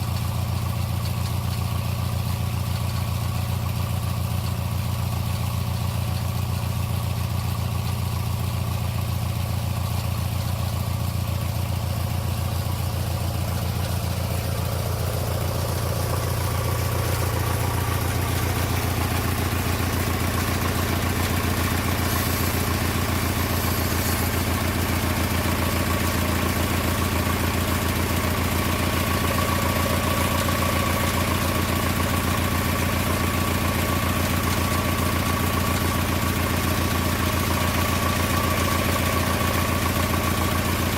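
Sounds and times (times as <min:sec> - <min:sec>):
small lawn mower engine running: 0:00.0 - 0:40.9.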